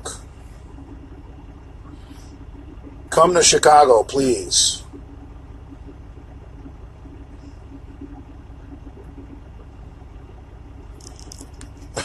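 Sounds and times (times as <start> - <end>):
truck engine rumble: 0.0 - 12.0.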